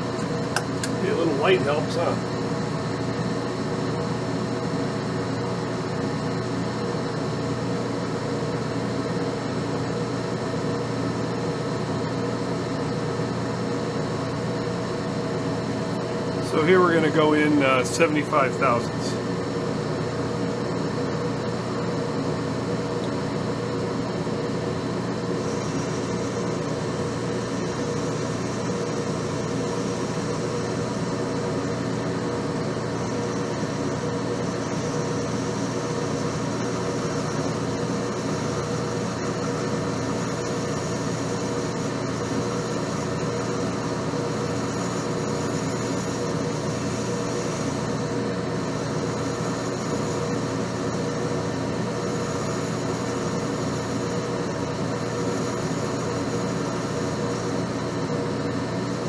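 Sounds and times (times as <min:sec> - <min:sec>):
metal lathe humming: 0:00.0 - 0:59.0.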